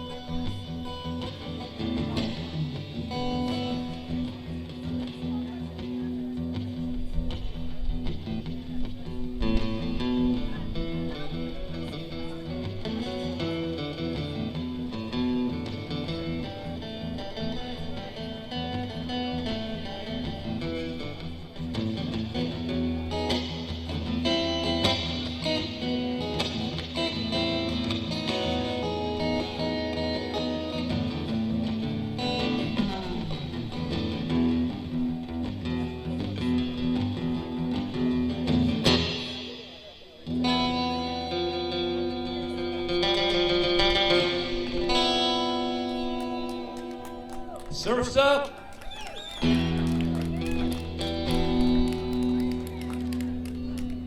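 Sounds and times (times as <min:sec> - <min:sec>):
picked guitar melody: 0:00.0 - 0:54.0.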